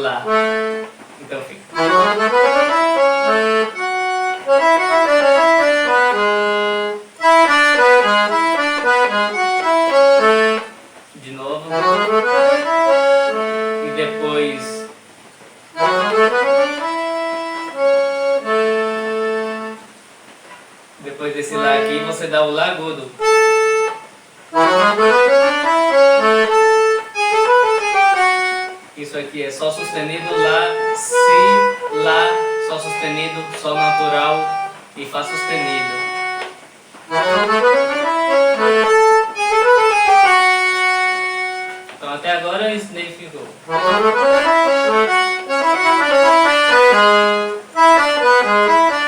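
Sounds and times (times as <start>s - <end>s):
accordion melody: 0.0s - 49.0s.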